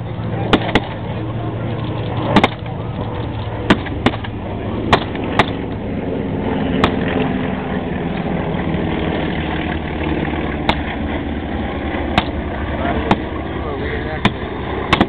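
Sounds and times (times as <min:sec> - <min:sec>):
engine-like rumble: 0:00.0 - 0:15.0.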